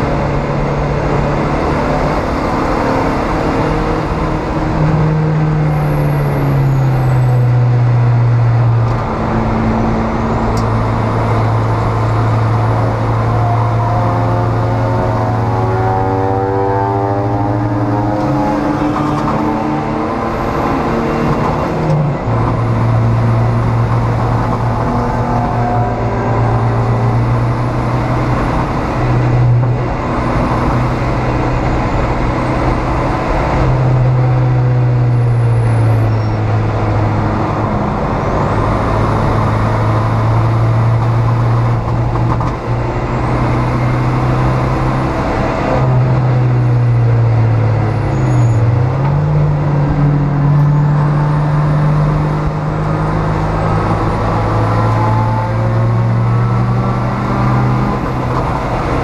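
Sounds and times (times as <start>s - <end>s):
race car engine running hard: 0.0s - 59.0s
wind and tyre noise: 0.0s - 59.0s.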